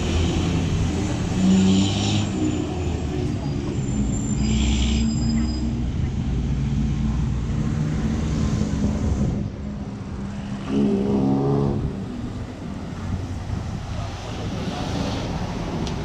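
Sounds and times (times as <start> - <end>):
vehicle engines passing: 0.0 - 16.0.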